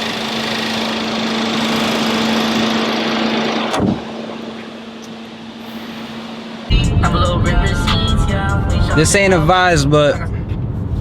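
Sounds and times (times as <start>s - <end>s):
car engine idling: 0.0s - 5.7s, 6.4s - 11.0s.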